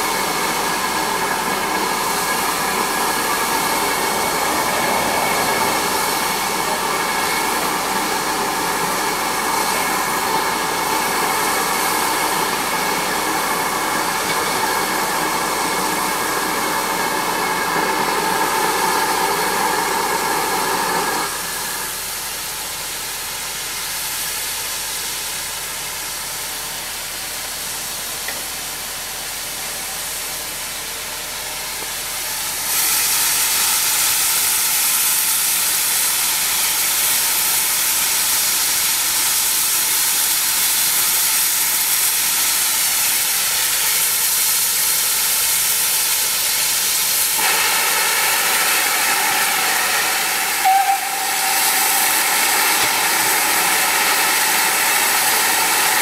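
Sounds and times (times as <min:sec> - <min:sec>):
steam hissing: 0:00.0 - 0:56.0.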